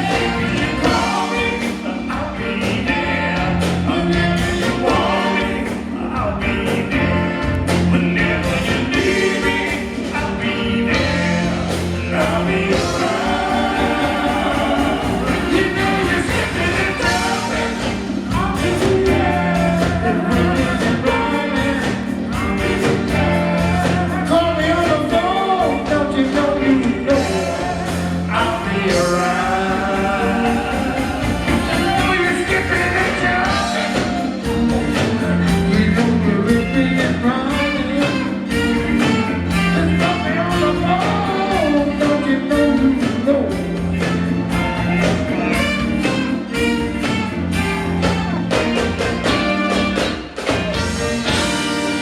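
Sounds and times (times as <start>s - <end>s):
disco soul band playing: 0.0s - 52.0s
lead and backing vocals: 0.0s - 52.0s.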